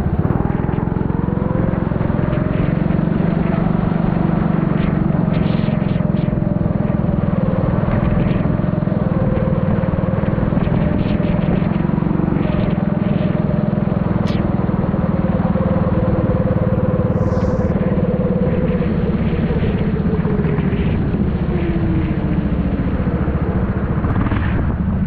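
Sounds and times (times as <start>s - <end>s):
kart engine running hard: 0.0s - 25.0s.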